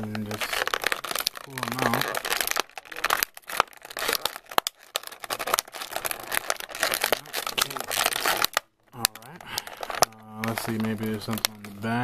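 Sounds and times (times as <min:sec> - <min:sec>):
plastic blister tray crinkling: 0:00.0 - 0:12.0.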